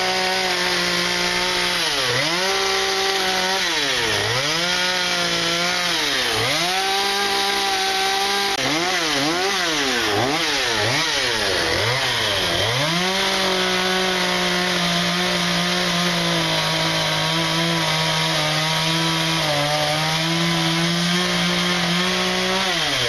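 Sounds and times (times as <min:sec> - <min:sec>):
chainsaw revving and cutting wood: 0:00.0 - 0:23.0.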